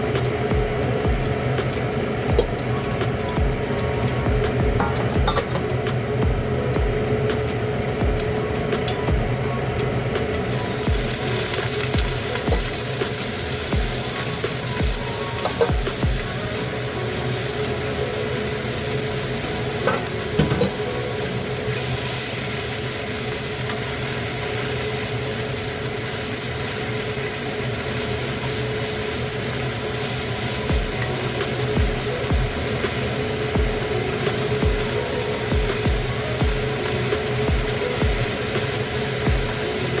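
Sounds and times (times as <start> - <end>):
leaves sizzling in a pan: 0.0 - 5.8, 6.4 - 40.0.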